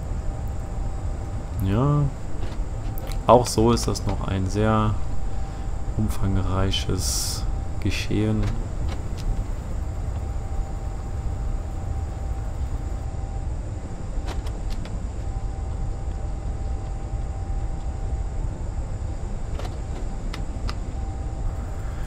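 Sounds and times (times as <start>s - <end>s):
low machine rumble: 0.0s - 22.0s.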